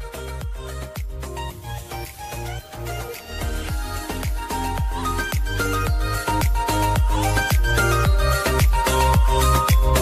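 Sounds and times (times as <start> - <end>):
dance music: 0.0 - 10.0.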